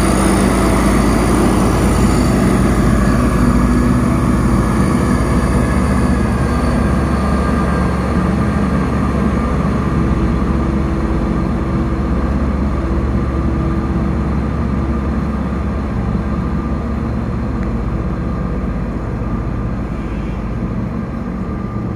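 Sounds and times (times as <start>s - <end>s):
diesel locomotive engine humming: 0.0s - 21.9s.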